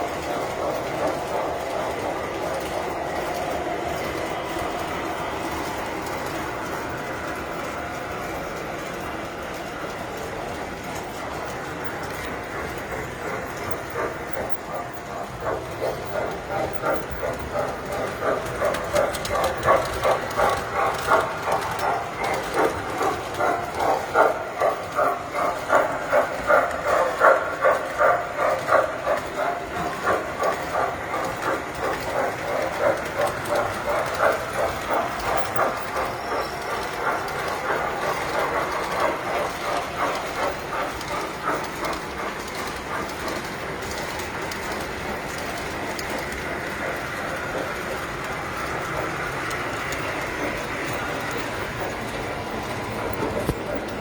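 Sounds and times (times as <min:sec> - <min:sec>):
model train clattering on track: 0:00.0 - 0:54.0.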